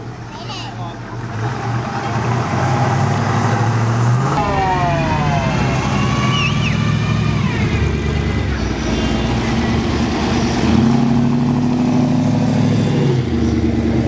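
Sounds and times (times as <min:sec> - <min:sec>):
car engine cruising past: 0:01.2 - 0:14.0.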